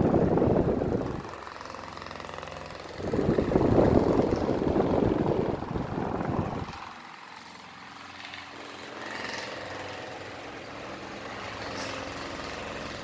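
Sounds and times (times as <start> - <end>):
fan airflow rushing over microphone: 0.0 - 13.0
fan whirring with motor hum: 0.0 - 13.0.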